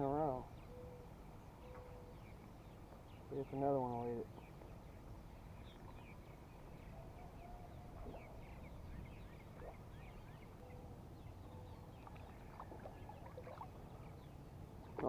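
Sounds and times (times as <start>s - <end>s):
faint birds chirping: 0.0s - 15.0s
low steady hum: 0.0s - 15.0s.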